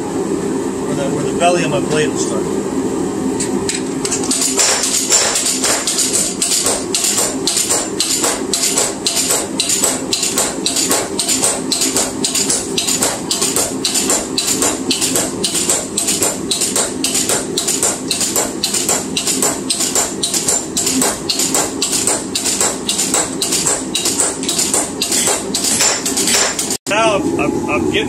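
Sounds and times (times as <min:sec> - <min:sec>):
steady low hum: 0:00.0 - 0:28.0
hammer striking hot metal: 0:04.0 - 0:26.8.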